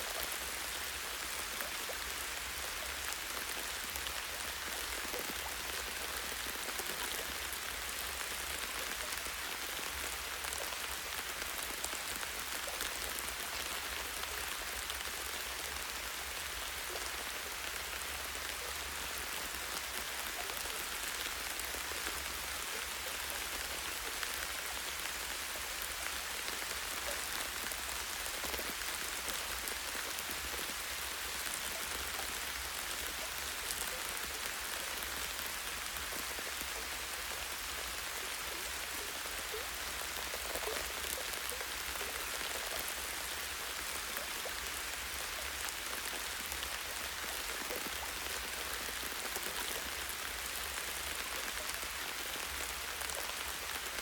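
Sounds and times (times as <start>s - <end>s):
light rain on leaves: 0.0s - 54.0s.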